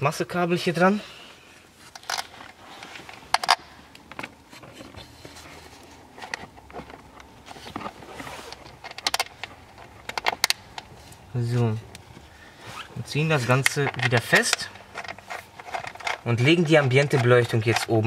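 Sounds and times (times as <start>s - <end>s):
cable rustling: 1.8s - 18.0s.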